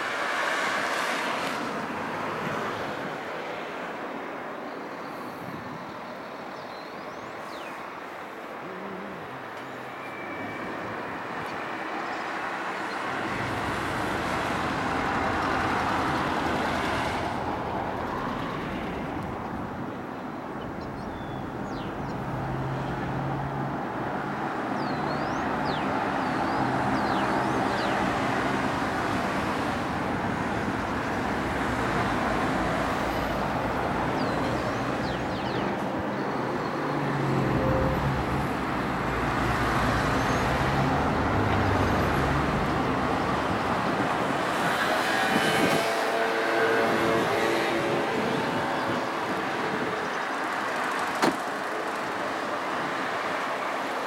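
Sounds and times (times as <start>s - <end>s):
cars passing on road: 0.0s - 54.0s.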